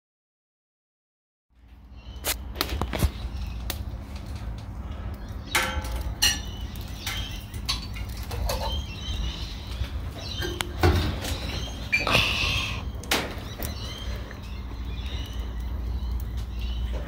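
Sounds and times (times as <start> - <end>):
wood fire crackling and popping: 1.6 - 17.0.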